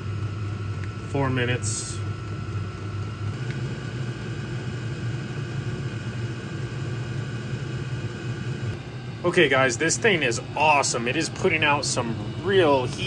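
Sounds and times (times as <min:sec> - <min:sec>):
air heater humming: 0:00.0 - 0:13.0
thin whine: 0:00.0 - 0:13.0.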